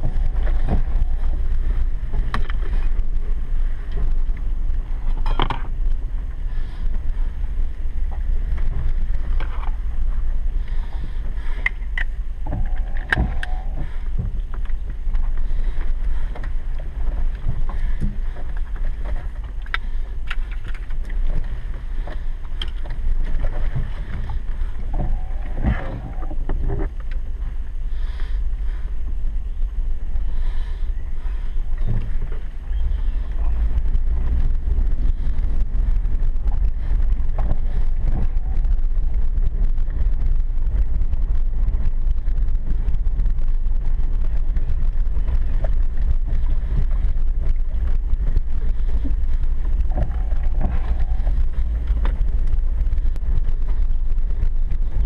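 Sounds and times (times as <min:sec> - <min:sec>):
engine and tyres rumbling: 0:00.0 - 0:55.0.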